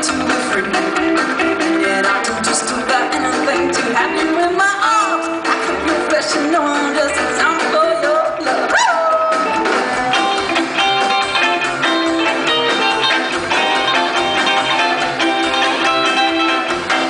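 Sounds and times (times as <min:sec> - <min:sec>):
guitar: 0:00.0 - 0:17.0
rock and roll band playing: 0:00.0 - 0:17.0.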